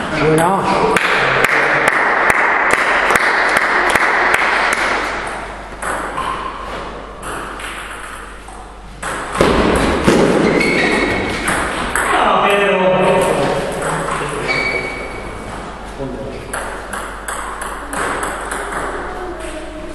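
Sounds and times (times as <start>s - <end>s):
table tennis rally: 0.0s - 19.9s
table tennis ball bouncing: 0.4s - 6.6s, 7.2s - 12.2s, 13.0s - 15.2s, 16.5s - 19.6s.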